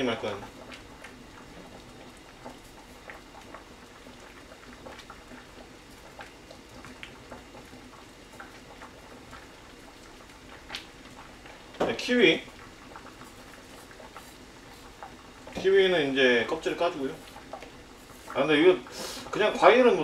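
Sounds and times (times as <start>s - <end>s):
gas stove hiss: 0.0s - 20.0s
pot boiling with small pops: 0.0s - 20.0s.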